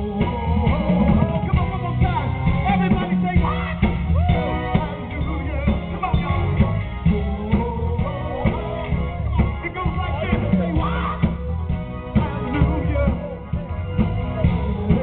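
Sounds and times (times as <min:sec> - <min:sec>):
drum kit: 0:00.0 - 0:15.0
electric bass: 0:00.0 - 0:15.0
keyboards: 0:00.0 - 0:15.0
man singing: 0:00.0 - 0:15.0.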